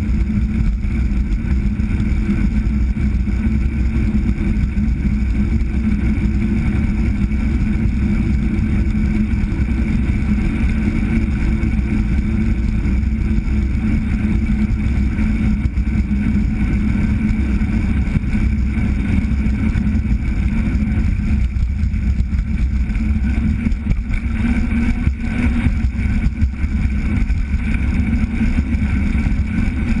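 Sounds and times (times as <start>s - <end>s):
bicycle road vibration: 0.0s - 30.0s
wind rumble on microphone: 0.0s - 30.0s.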